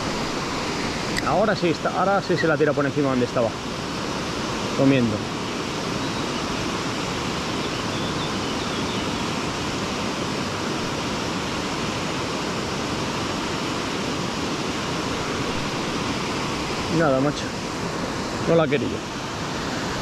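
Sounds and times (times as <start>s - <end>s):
fast-flowing river rushing: 0.0s - 20.0s.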